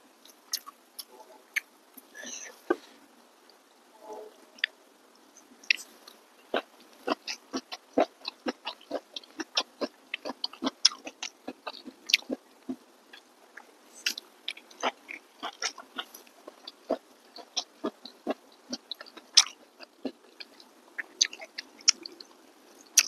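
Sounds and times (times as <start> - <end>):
person chewing with lip-smacking: 0.3 - 2.4, 5.6 - 22.3.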